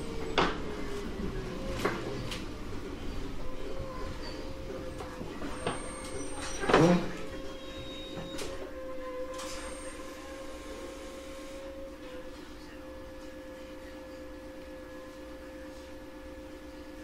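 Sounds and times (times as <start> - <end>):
electric train motor whine: 0.0 - 17.0.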